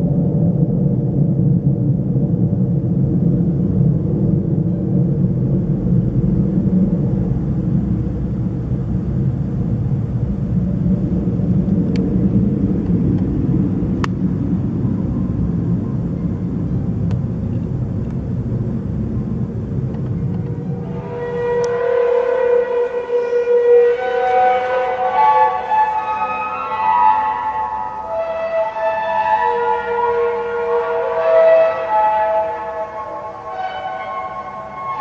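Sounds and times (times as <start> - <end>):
faint hum: 0.0 - 35.0
low rumbling drone: 0.0 - 35.0.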